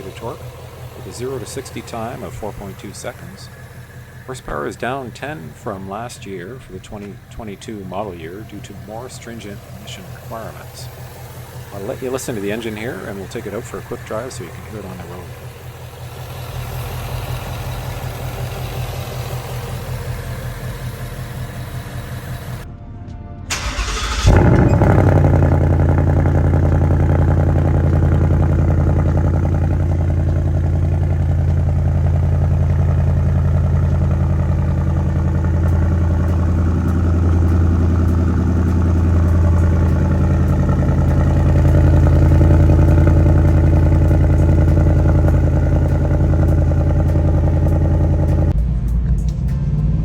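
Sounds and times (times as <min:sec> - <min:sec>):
car engine deep idle: 0:00.0 - 0:22.6, 0:23.5 - 0:49.5.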